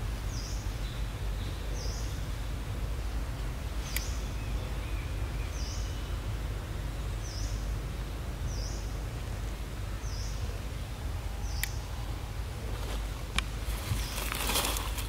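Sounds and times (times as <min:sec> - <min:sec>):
soft noise haze: 0:00.0 - 0:15.0
steady low rumble: 0:00.0 - 0:15.0.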